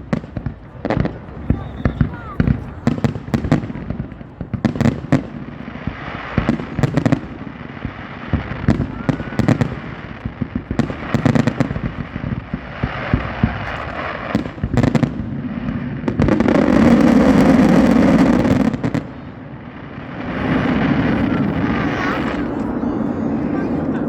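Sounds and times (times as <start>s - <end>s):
fireworks crackling barrage: 0.0s - 24.0s.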